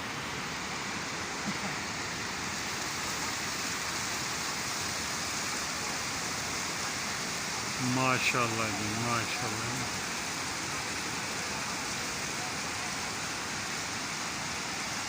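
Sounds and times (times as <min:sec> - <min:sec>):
waterfall gushing and splashing: 0:00.0 - 0:15.0.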